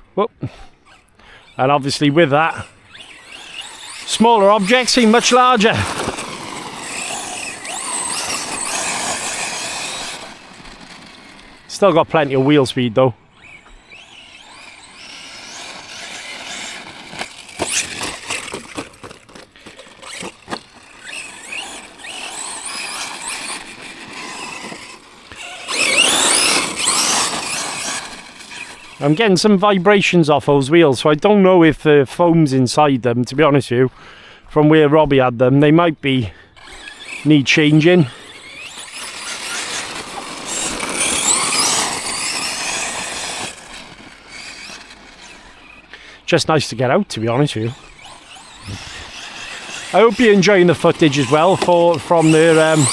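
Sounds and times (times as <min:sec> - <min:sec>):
electric motor whining: 0:00.5 - 0:31.9, 0:36.0 - 0:52.9
tyres spinning on wet ground: 0:01.0 - 0:31.1, 0:36.0 - 0:52.9.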